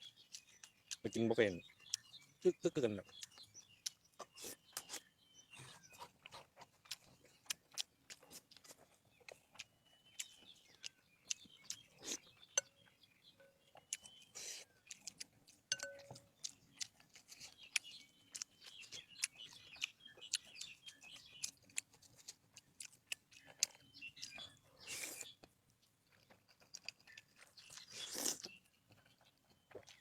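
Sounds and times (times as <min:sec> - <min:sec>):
crunchy chewing: 0:00.0 - 0:30.0
faint birds chirping: 0:00.0 - 0:30.0.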